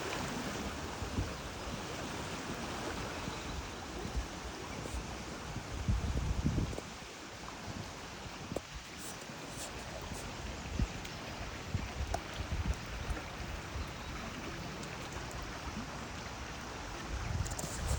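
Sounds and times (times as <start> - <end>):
rushing river water: 0.0 - 17.9.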